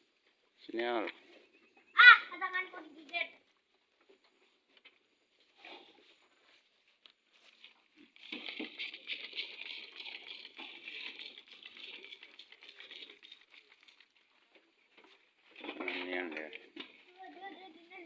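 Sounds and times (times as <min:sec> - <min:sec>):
goats chewing and tearing grass: 0:03.0 - 0:18.0.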